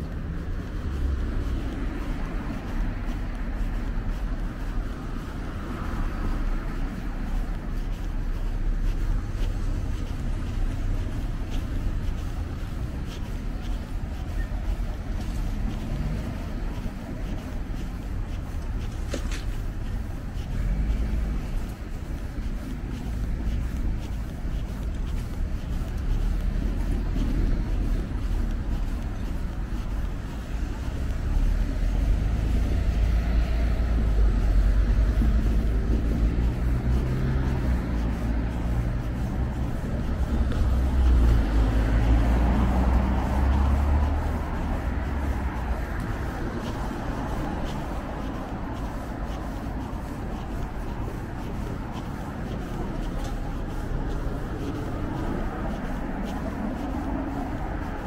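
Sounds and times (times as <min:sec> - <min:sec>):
cars passing on city street: 0:00.0 - 0:58.0.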